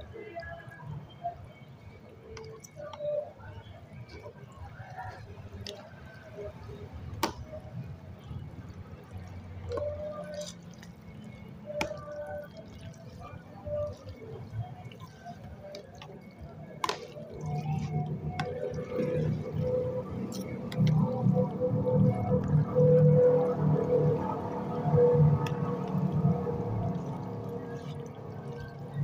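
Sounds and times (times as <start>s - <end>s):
wet squelching of noodles: 2.3s - 29.0s.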